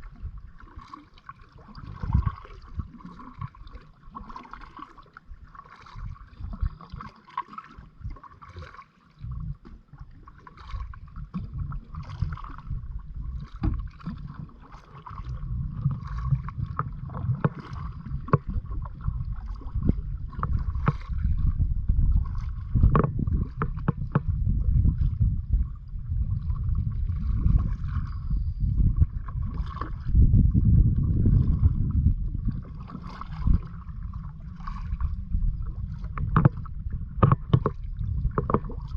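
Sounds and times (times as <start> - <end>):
wind rumble on microphone: 0.0 - 7.1, 7.7 - 38.9
paddle strokes splashing in water: 0.0 - 38.9.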